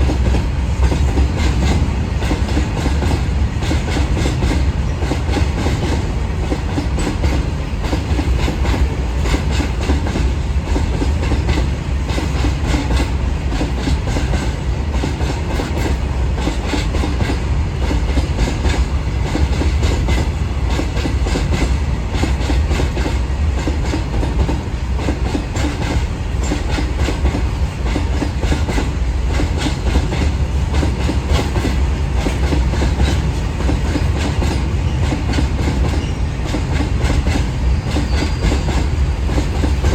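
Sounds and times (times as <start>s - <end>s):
freight train wagons rumbling: 0.0s - 39.9s.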